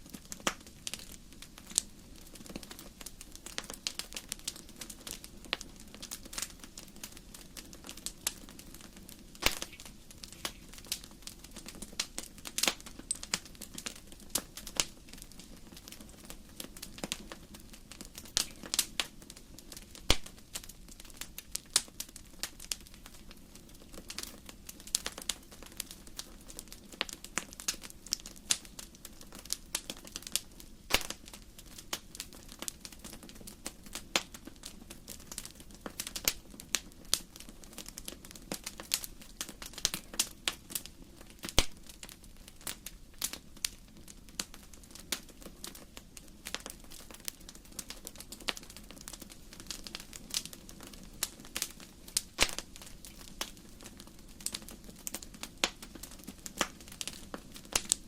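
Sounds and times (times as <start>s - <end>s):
low steady hiss: 0.0s - 58.0s
wood fire crackling: 0.0s - 58.0s.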